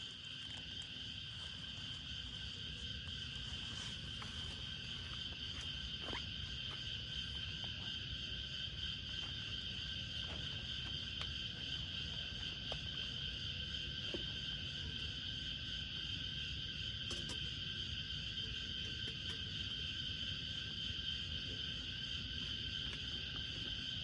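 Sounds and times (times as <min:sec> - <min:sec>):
frogs and insects calling: 0:00.0 - 0:24.0.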